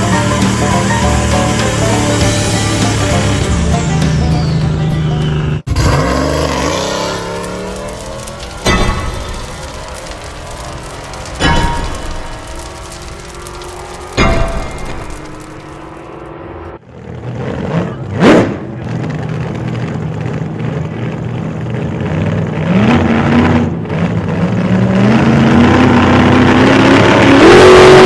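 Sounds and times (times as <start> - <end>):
vehicle engine revving: 0.0 - 28.0.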